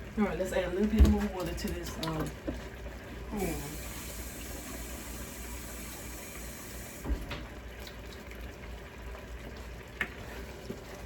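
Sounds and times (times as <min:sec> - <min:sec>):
tap running water: 0:00.5 - 0:11.0.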